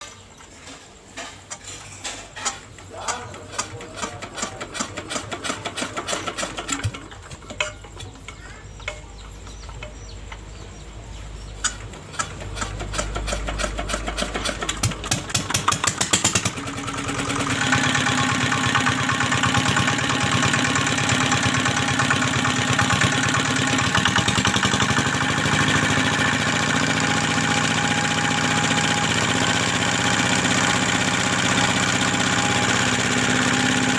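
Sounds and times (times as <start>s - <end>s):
diesel engine starting and running: 2.9s - 33.9s.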